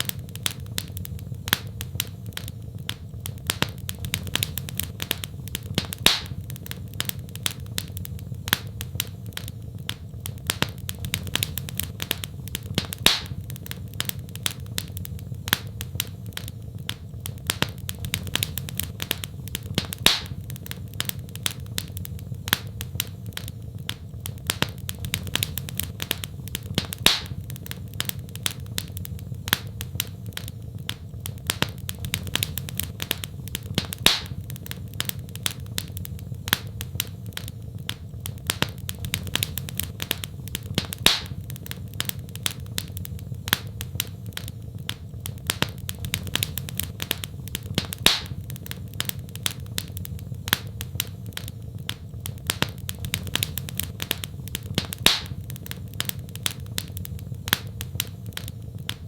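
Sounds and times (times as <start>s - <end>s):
steady low hum: 0.0s - 59.0s
wood fire crackling: 0.0s - 59.0s.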